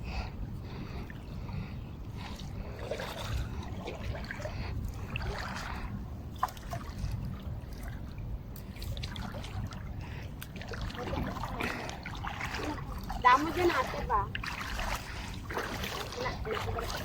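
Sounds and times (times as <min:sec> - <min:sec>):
steady low rumble: 0:00.0 - 0:17.0
shallow water sloshing: 0:00.6 - 0:17.0.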